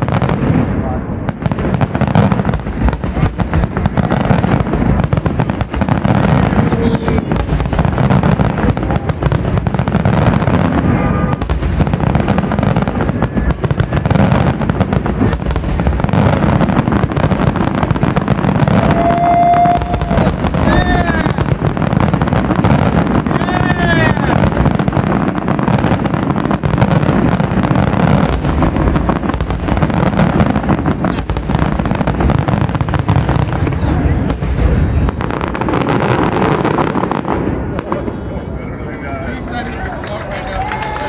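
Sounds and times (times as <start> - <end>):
fireworks barrage: 0.0 - 41.0.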